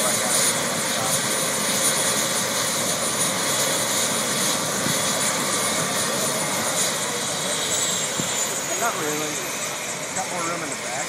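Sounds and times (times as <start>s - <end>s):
helicopter rotor and engine noise: 0.0s - 11.0s
high turbine whine: 0.0s - 11.0s.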